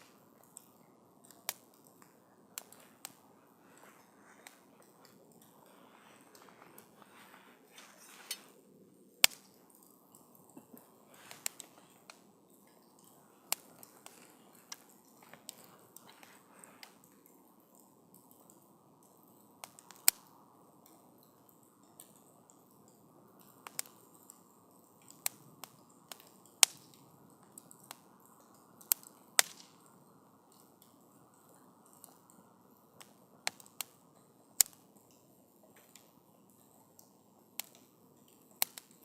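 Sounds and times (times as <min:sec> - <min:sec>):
burning wood crackling and popping: 0:00.0 - 0:39.0
campfire hissing: 0:00.0 - 0:39.0.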